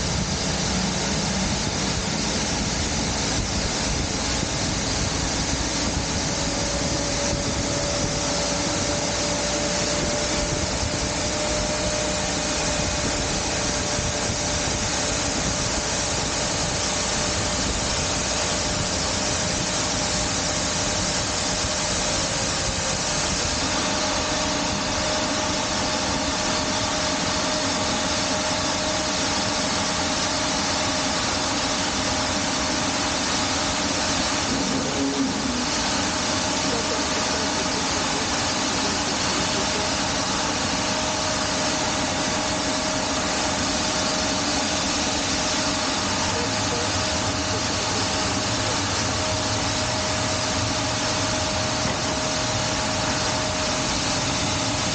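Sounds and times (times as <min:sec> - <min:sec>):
jet engine rushing noise: 0:00.0 - 0:54.9.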